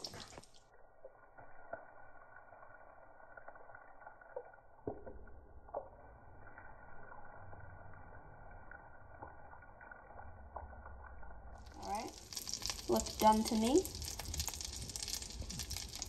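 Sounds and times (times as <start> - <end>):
food frying in oil: 0.0 - 16.0
oil crackles and pops: 0.0 - 16.0.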